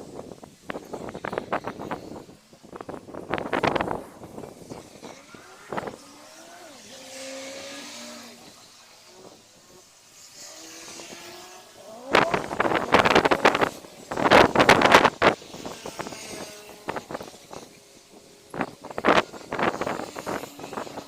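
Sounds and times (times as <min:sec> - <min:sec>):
wind buffeting microphone: 0:00.0 - 0:21.0
vehicle passing: 0:03.4 - 0:21.0.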